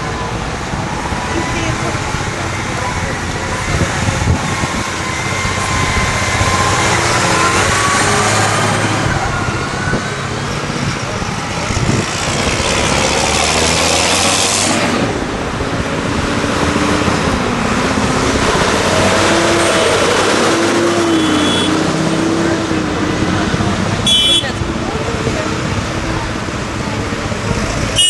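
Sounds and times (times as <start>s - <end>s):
tractor passing close: 0.0s - 24.0s
tractor engines running: 0.0s - 28.0s.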